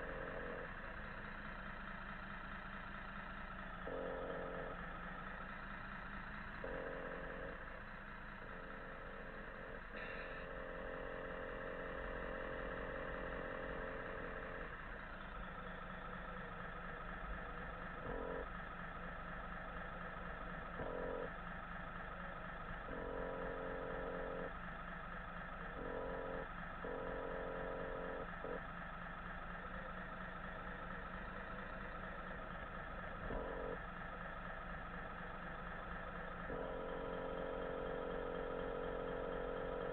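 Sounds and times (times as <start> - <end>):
model truck engine hum: 0.0 - 39.9.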